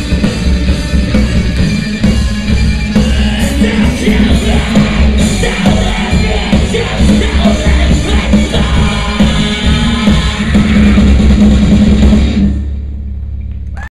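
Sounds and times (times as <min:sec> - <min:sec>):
loud rock band playing: 0:00.0 - 0:13.1.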